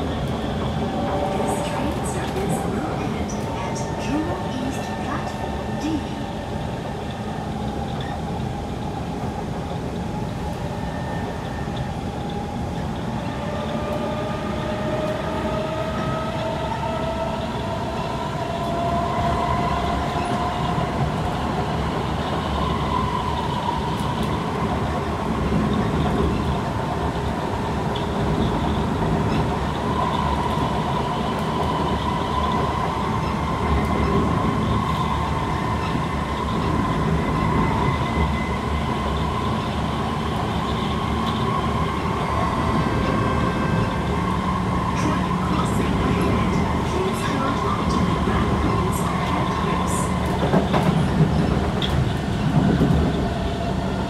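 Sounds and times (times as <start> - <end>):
wheels rumbling on track: 0.0 - 54.0.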